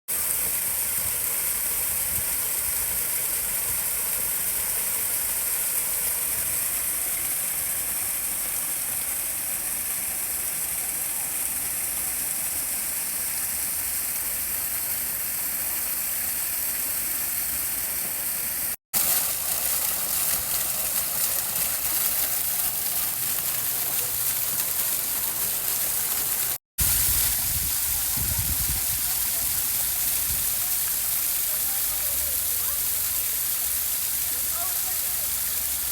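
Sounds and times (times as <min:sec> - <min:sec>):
water splashing in fountains: 0:00.1 - 0:35.9.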